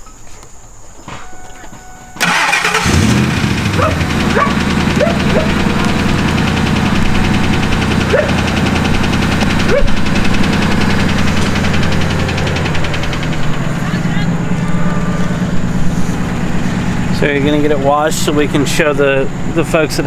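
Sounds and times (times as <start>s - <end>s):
engine idling: 1.9s - 20.0s
engine tapping: 2.1s - 20.0s
engine cranking and starting: 2.2s - 19.7s.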